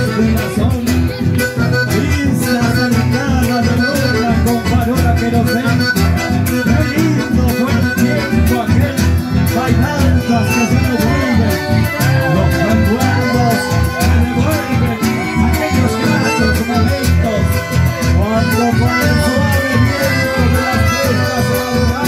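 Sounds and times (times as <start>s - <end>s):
accordion: 0.0s - 22.0s
guitars strumming rhythm: 0.0s - 22.0s.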